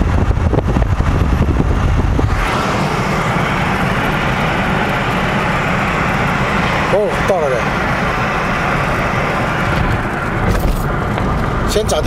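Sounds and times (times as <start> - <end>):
road noise inside moving car: 0.0 - 12.0.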